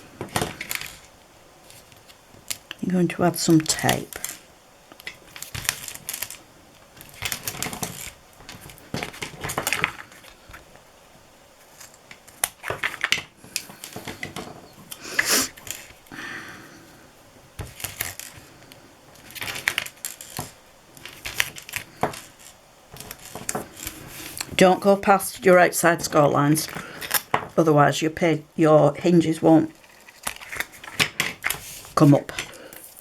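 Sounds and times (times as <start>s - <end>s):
tape pulled off roll crackling: 0.0s - 2.8s, 3.6s - 11.0s, 11.6s - 16.2s, 17.5s - 27.6s, 29.7s - 33.0s.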